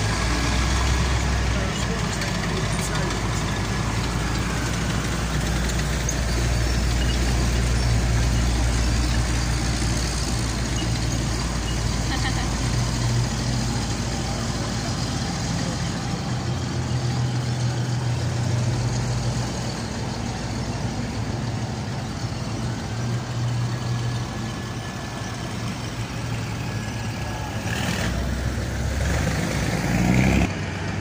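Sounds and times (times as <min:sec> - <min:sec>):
heavy truck engines running: 0:00.0 - 0:31.0.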